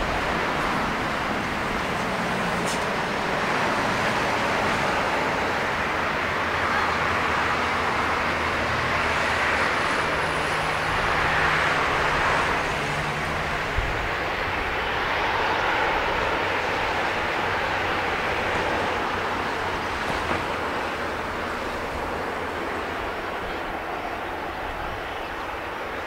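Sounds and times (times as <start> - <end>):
turboprop engines drone: 0.0 - 26.0.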